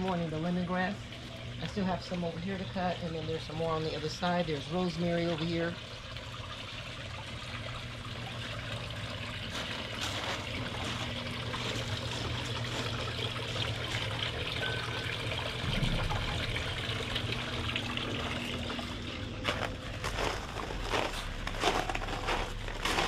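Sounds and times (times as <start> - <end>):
fountain water trickling: 0.0 - 23.0.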